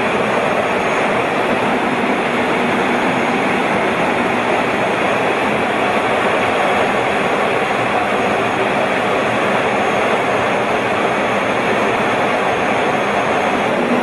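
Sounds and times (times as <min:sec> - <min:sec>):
jet engines and rushing air: 0:00.0 - 0:14.0.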